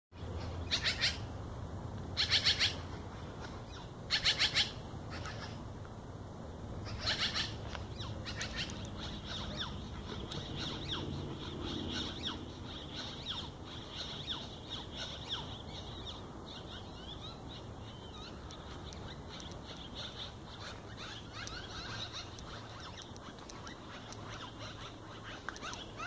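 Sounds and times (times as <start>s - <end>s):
thin downslurred bird chirps: 0.2s - 1.3s, 2.2s - 2.8s, 3.6s - 5.6s, 6.8s - 26.0s.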